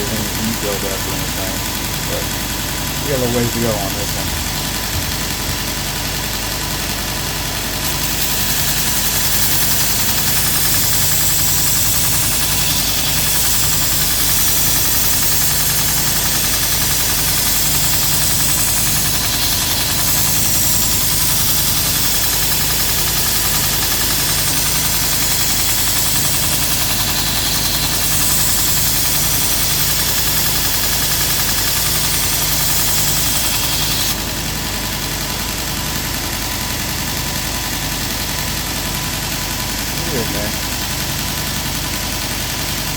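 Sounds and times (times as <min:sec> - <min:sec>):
blade grinding on belt: 0:00.0 - 0:35.3, 0:39.8 - 0:42.9
belt grinder motor hum: 0:00.0 - 0:42.9.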